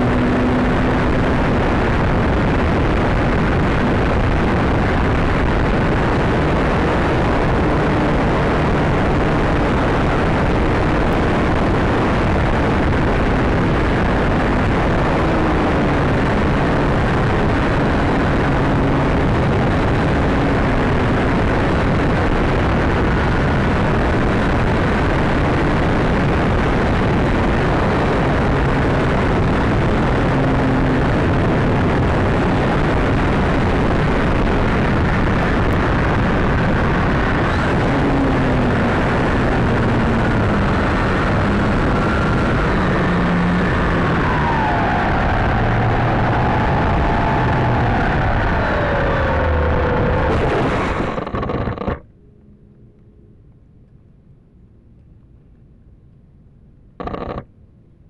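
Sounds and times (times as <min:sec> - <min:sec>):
wind rush on microphone: 0:00.0 - 0:52.1
propeller hum: 0:00.0 - 0:55.8.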